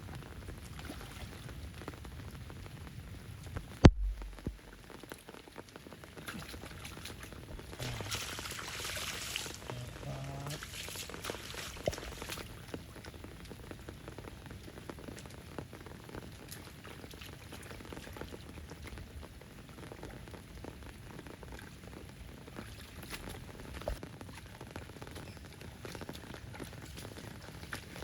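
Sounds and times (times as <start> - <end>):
rain falling steadily: 0.0 - 28.0.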